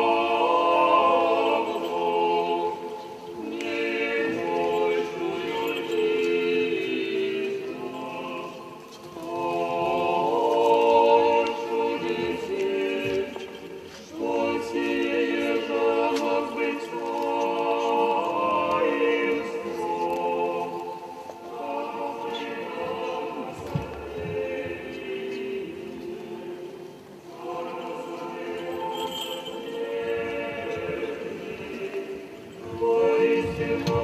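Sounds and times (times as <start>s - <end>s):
choir singing unaccompanied: 0.0s - 34.0s.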